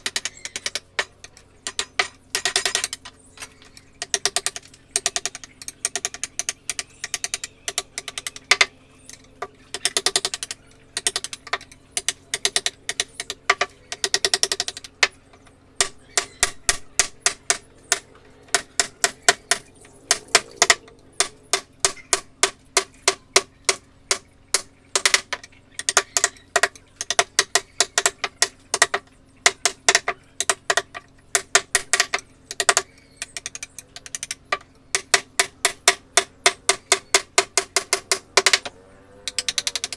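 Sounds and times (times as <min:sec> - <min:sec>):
mallet striking a chisel: 0:00.0 - 0:09.2, 0:09.8 - 0:15.2, 0:15.8 - 0:34.4, 0:35.0 - 0:38.7.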